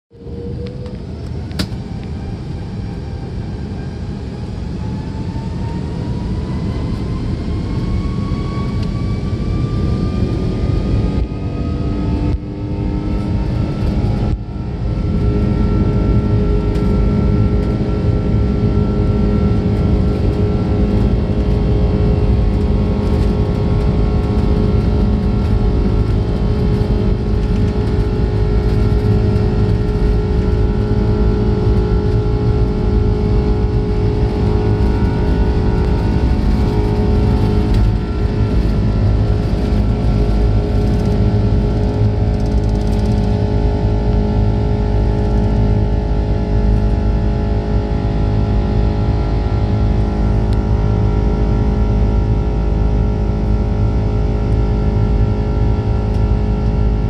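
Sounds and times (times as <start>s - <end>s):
low rumble of plane rolling: 0.1s - 57.0s
jet engines whining: 0.2s - 53.0s.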